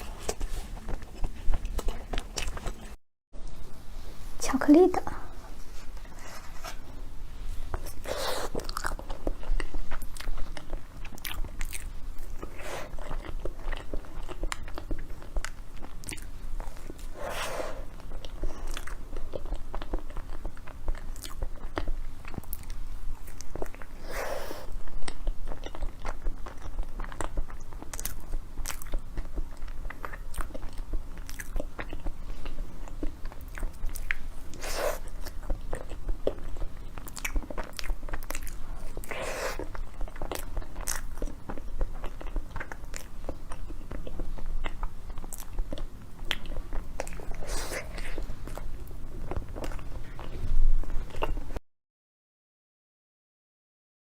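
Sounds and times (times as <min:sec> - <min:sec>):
biting and chewing: 0:00.0 - 0:03.0, 0:07.8 - 0:51.5.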